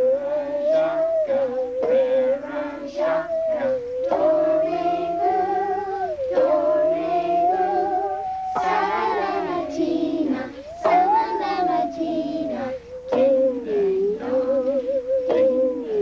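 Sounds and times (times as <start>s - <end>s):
children singing: 0.0s - 16.0s
musical saw with vibrato: 0.0s - 16.0s.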